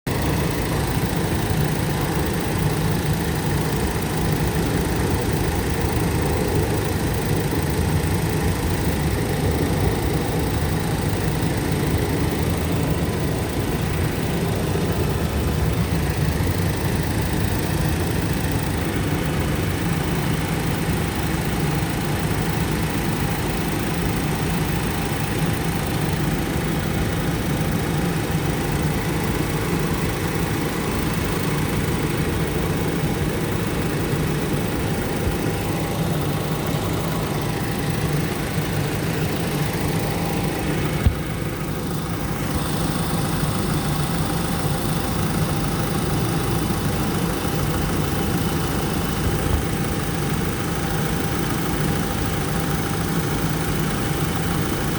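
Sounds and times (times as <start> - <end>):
car engine idling: 0.1 - 54.9.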